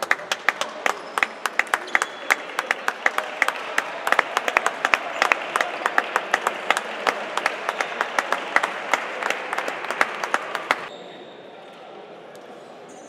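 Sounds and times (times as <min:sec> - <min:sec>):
close hand claps: 0:00.0 - 0:10.9
crowd applauding: 0:00.0 - 0:10.9.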